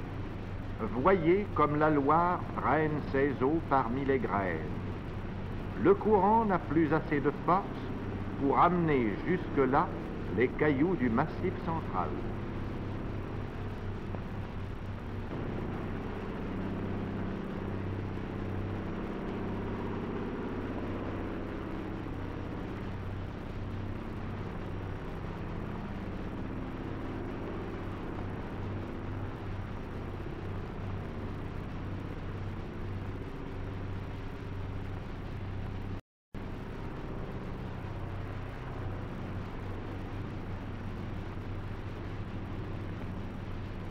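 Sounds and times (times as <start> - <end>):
propeller aeroplane engine drone: 0.0 - 43.9.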